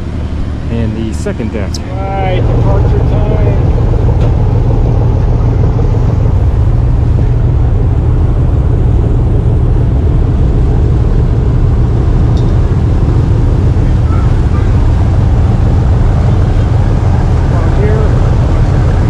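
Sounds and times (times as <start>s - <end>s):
ferry diesel engines droning: 0.0s - 19.0s.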